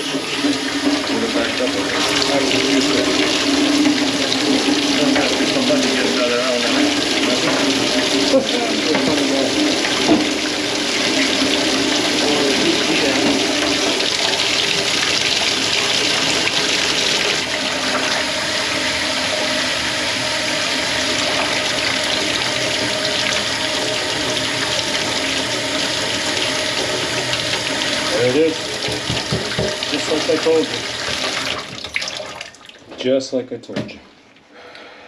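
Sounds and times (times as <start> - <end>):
water rushing: 0.0 - 32.8.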